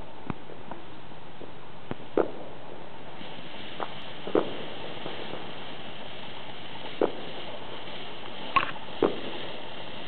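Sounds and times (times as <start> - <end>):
firework spraying sparks hissing: 0.6 - 10.0.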